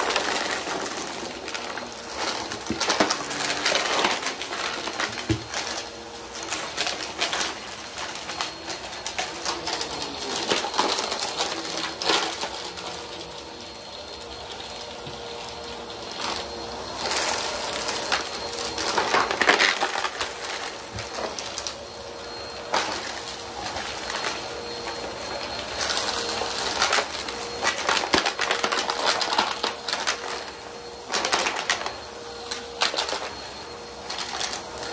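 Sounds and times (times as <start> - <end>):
debris crackling in vacuum: 0.0 - 34.9
vacuum cleaner motor whine: 0.0 - 34.9.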